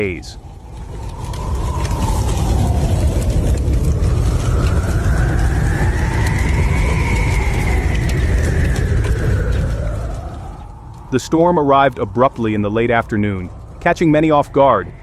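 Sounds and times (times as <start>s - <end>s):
faint wind howl: 0.0s - 15.0s
strong wind buffeting microphone: 0.0s - 15.0s.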